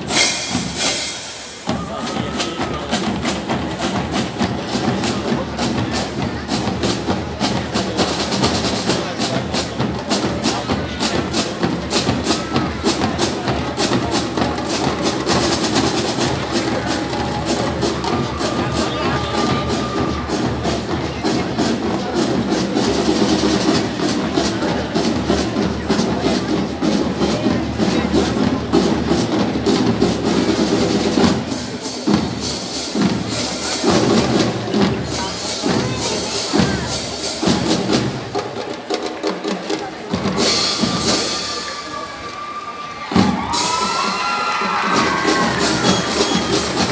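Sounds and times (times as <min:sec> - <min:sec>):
fanfare band playing: 0:00.0 - 0:46.9
fast percussion beat: 0:00.0 - 0:46.9.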